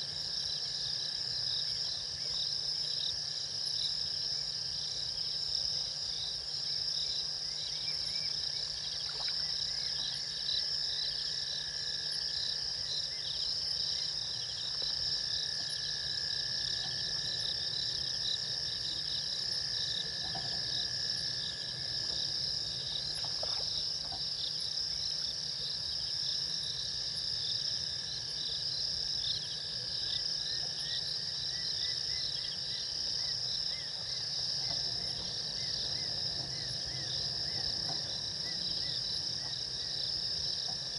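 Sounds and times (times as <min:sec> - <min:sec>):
crickets and insects trilling: 0:00.0 - 0:40.9
steady insect tone: 0:00.0 - 0:40.9.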